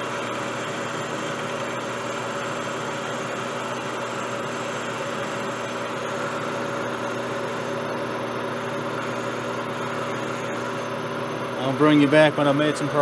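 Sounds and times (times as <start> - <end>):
metal lathe humming: 0.0 - 13.0.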